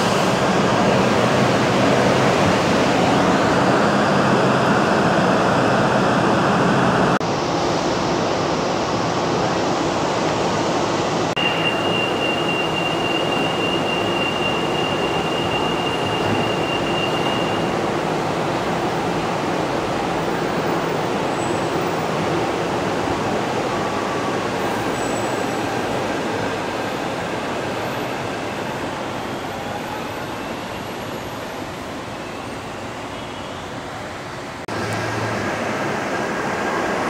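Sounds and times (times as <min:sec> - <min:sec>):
monorail train running: 0:00.0 - 0:37.0.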